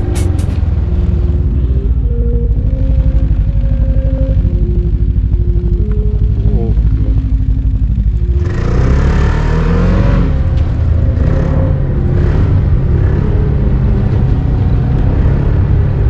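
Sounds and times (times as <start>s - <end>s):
snowmobile engine at speed: 0.0s - 16.0s.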